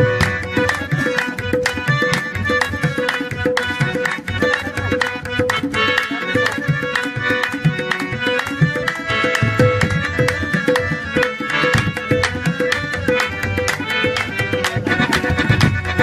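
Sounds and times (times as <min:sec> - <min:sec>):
sustained melody line: 0:00.0 - 0:16.0
tabla rhythm: 0:00.0 - 0:16.0.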